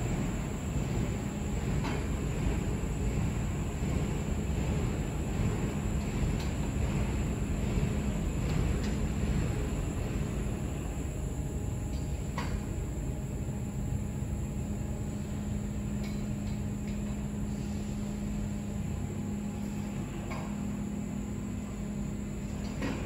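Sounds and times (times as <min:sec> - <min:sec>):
conveyor motor hum and rumble: 0:00.0 - 0:23.0.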